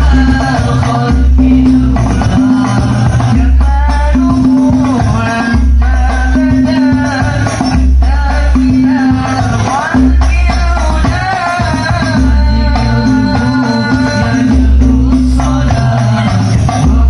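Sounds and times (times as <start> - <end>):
frame drums: 0.0 - 17.0
voices singing: 0.0 - 17.0.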